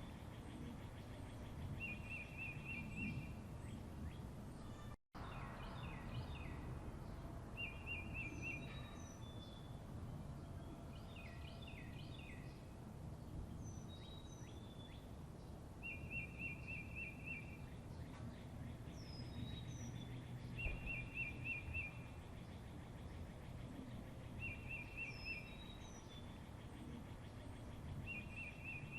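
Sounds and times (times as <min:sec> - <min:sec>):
songbirds chirping and singing: 0:00.0 - 0:28.9.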